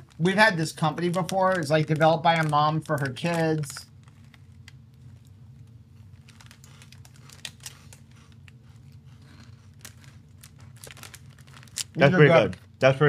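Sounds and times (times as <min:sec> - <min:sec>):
snack bag crinkling: 0:00.0 - 0:12.7.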